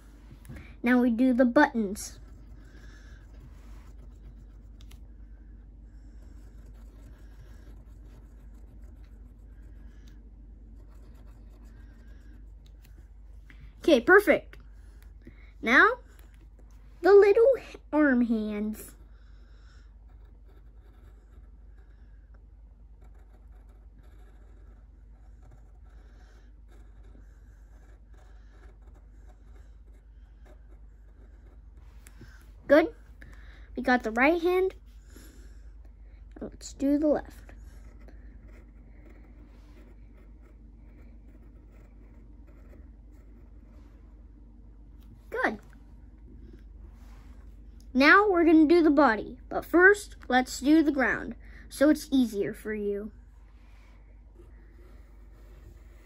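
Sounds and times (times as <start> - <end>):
pencil scratching on paper: 0.0 - 33.2, 33.8 - 44.4, 53.1 - 56.0
low steady hum: 0.0 - 56.0.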